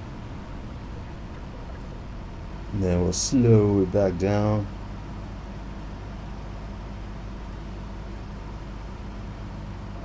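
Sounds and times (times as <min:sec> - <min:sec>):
airplane engine drone: 0:00.0 - 0:10.0.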